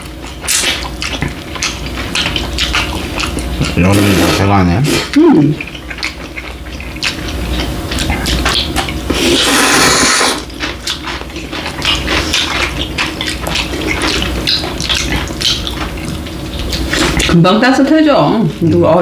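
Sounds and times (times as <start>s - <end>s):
wet chewing smacks: 0.0s - 17.4s
noodle slurping: 0.5s - 5.2s, 5.8s - 17.4s.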